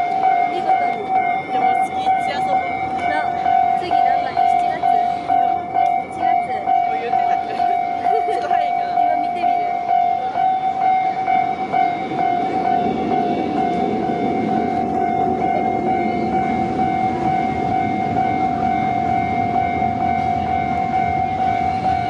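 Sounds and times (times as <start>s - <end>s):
level-crossing warning bell: 0.0s - 22.0s
train rumbling over rails: 0.0s - 22.0s.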